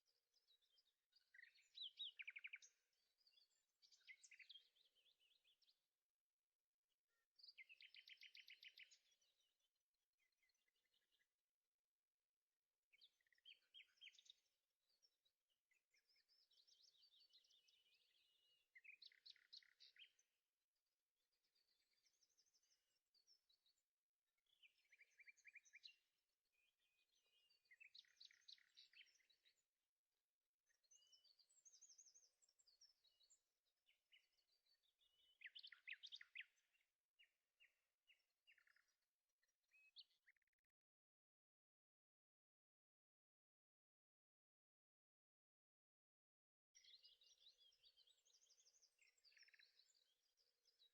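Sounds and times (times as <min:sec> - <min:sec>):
faint songbird chirps and trills: 0:00.0 - 0:50.9.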